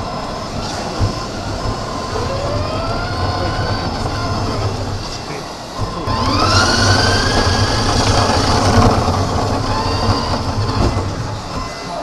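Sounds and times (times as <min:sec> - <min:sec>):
small motor whining: 0:00.0 - 0:12.0
wheels rolling on concrete: 0:00.0 - 0:12.0.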